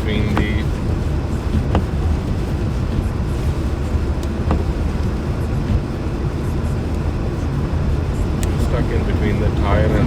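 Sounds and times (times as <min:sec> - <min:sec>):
car engine: 0:00.0 - 0:10.0.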